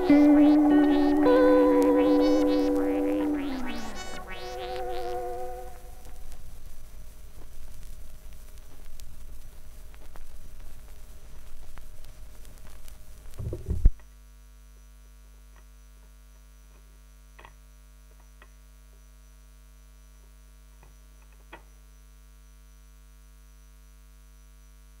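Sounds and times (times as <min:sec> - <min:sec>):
record surface crackle: 0:00.0 - 0:21.7
electrical mains hum: 0:00.0 - 0:25.0.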